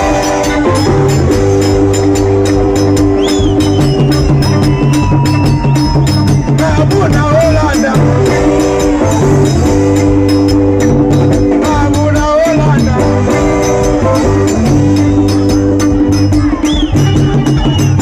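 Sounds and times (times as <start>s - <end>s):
live band music: 0.0s - 18.0s.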